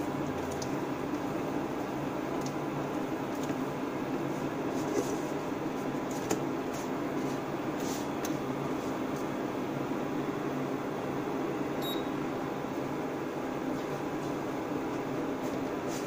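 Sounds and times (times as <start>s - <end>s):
fan hum: 0.0s - 16.0s.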